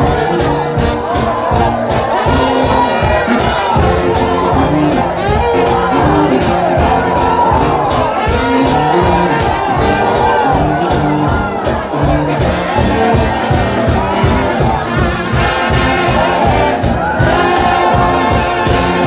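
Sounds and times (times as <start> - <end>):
crowd noise: 0.0 - 19.0
steady drum beat: 0.0 - 19.0
trombones playing sliding notes: 0.0 - 19.0.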